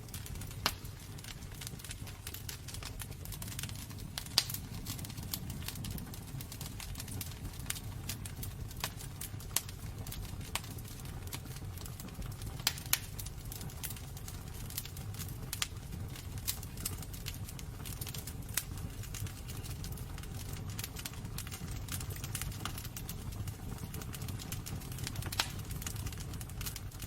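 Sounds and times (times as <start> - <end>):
low fire rumble: 0.0 - 27.0
wood fire crackling and popping: 0.0 - 27.0.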